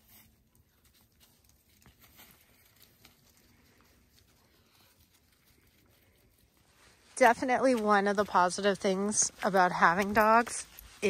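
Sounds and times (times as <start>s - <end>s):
dogs rustling through brush: 0.0s - 11.0s.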